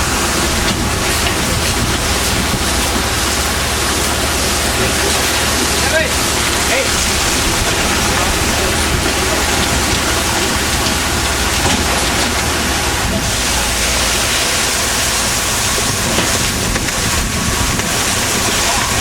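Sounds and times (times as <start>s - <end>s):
low engine hum: 0.0s - 19.0s
water rushing: 0.0s - 19.0s.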